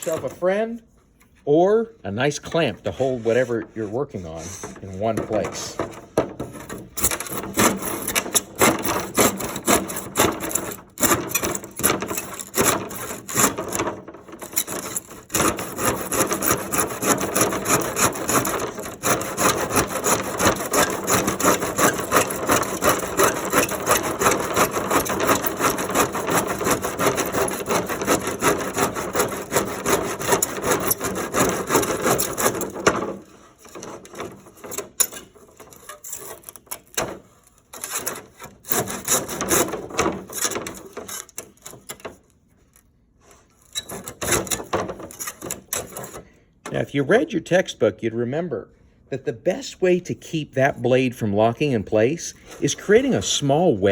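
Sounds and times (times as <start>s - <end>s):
hand saw cutting wood: 0.0s - 0.7s, 2.9s - 42.2s, 43.2s - 46.8s.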